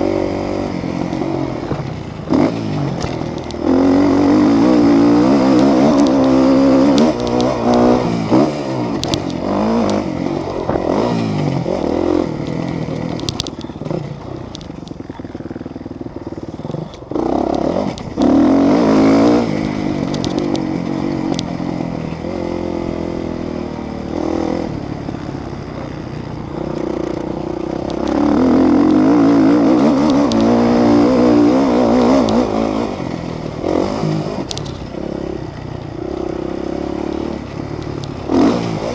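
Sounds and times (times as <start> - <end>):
motocross engines revving: 0.0 - 38.9.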